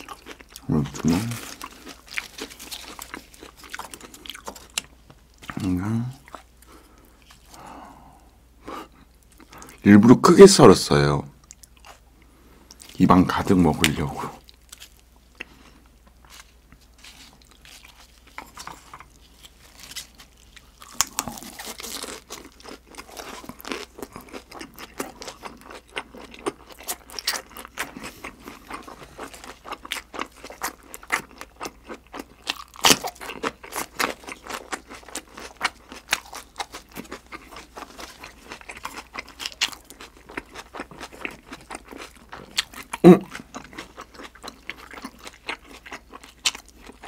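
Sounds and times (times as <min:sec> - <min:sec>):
close-miked chewing and crunching: 0:00.0 - 0:10.7, 0:11.3 - 0:47.0.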